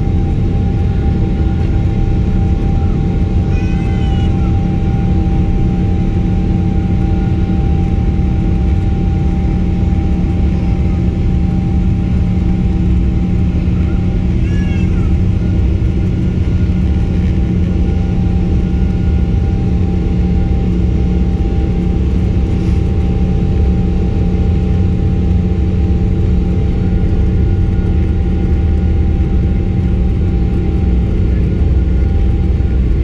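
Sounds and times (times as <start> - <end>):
constant hums: 0.0 - 33.0
jet engines rumbling: 0.0 - 33.0.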